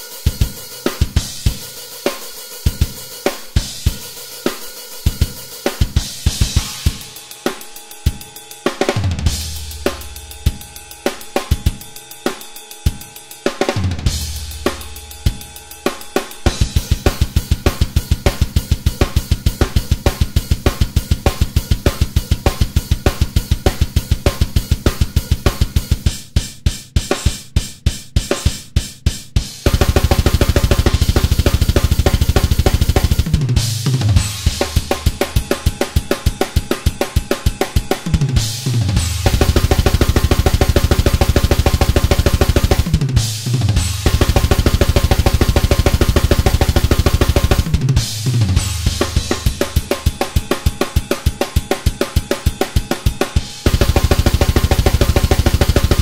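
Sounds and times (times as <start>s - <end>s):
metal drum kit playing: 0.0s - 56.0s
rapid double bass drum: 8.8s - 11.8s, 13.7s - 56.0s.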